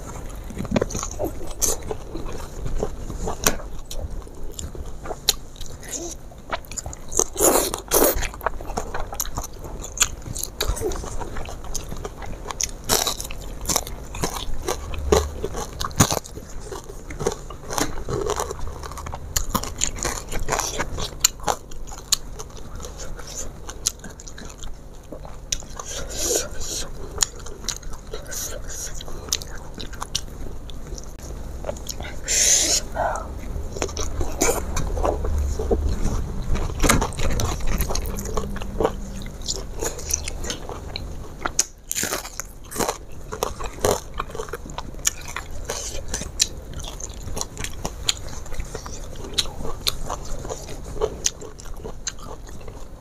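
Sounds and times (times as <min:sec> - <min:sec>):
person crunching and chewing: 0:00.0 - 0:53.0.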